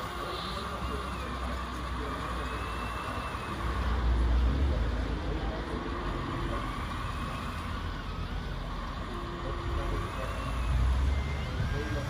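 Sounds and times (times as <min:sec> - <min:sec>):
toy truck electric motor whining: 0:00.0 - 0:12.0.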